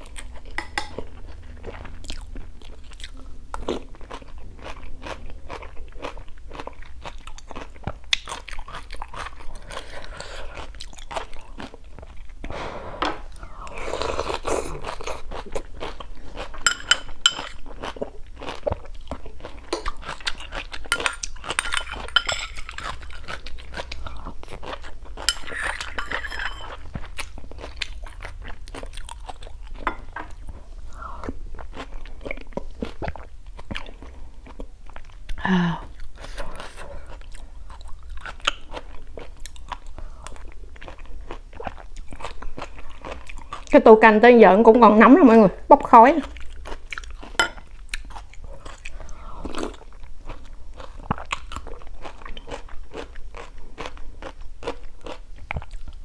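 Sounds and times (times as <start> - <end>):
chewing and crunching food: 0.0 - 12.6, 13.2 - 44.0, 46.2 - 56.0.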